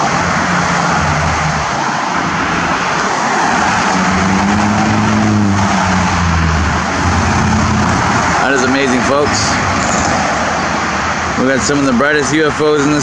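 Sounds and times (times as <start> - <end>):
passing vehicle engine hum: 0.0 - 13.0
road traffic noise: 0.0 - 13.0.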